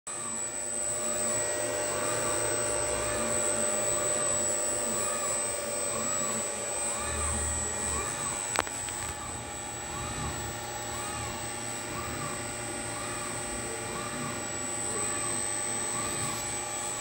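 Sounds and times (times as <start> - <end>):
faint warble: 0.1 - 17.0
fan whir: 0.1 - 17.0
high-pitched whine: 0.1 - 17.0.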